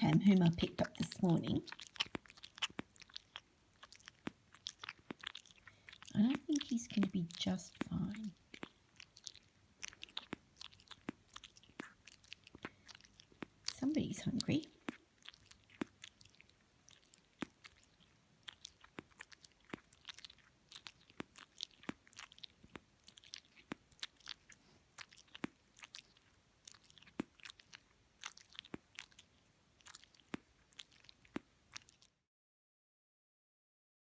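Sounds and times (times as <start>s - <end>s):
wet sucking and mouth-smacking clicks: 0.0s - 32.2s.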